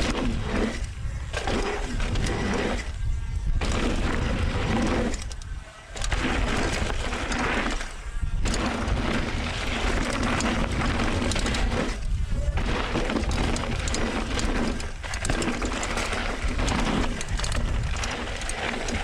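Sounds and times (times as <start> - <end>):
bike rattle: 0.0 - 19.0
bike tyres rushing on dirt: 0.0 - 19.0
wind rumble: 0.0 - 19.0.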